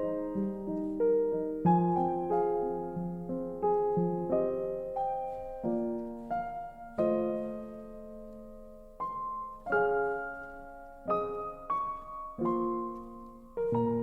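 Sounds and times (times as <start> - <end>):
slow gentle solo piano: 0.0 - 14.0.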